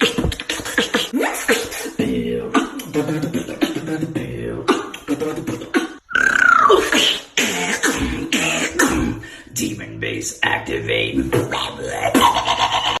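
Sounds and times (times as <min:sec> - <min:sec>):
person beatboxing: 0:00.0 - 0:13.0.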